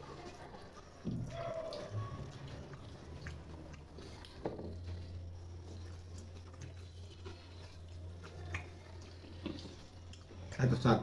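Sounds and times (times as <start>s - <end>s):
small clicks and mouth sounds: 0.1s - 10.8s.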